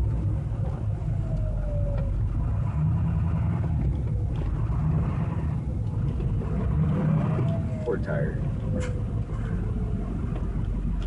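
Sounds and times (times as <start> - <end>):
tyres on road: 0.0 - 11.0
vehicle engine rumble: 0.0 - 11.0.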